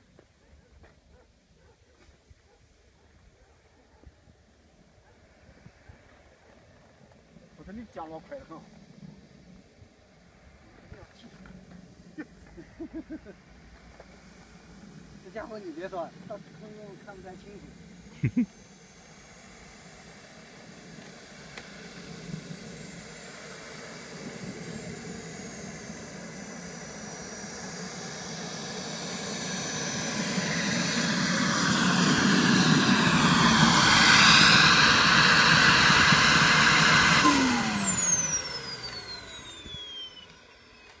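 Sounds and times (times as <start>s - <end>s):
jet turbine whine: 0.0s - 41.0s
turbine spooling down: 3.9s - 41.0s.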